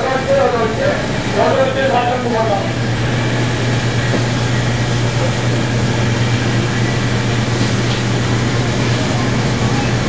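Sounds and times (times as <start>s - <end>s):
noisy background: 0.0s - 10.0s
steady low hum: 0.0s - 10.0s.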